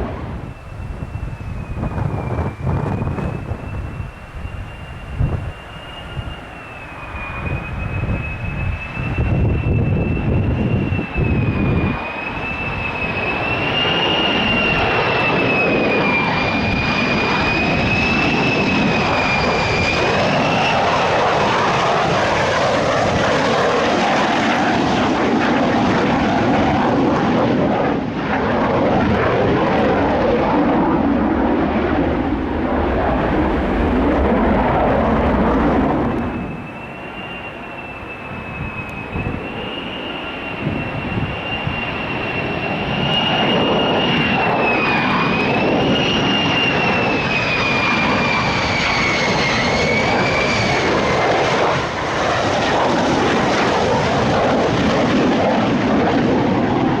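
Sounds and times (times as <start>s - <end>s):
high engine whine: 0.0s - 57.0s
jet engine roar: 0.0s - 57.0s.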